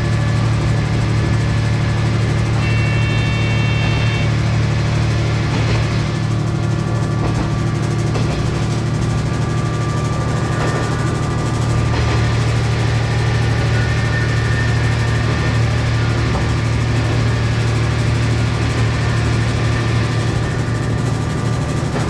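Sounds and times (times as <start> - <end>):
diesel railcar engine droning: 0.0 - 22.0.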